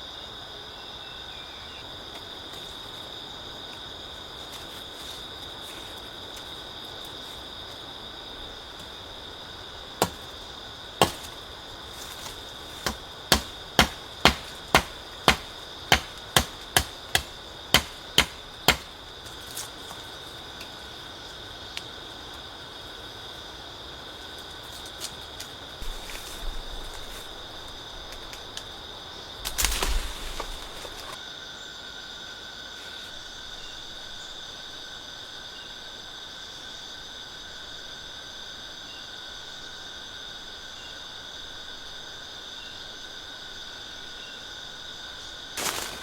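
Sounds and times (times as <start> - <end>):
high insect drone: 0.0 - 46.0.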